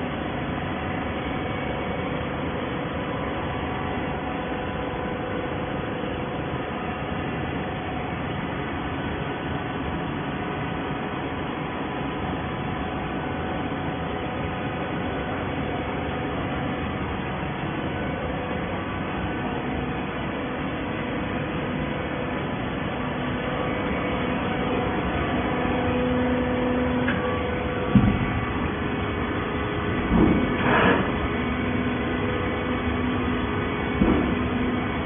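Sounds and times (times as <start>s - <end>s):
baler machine humming: 0.0s - 35.0s.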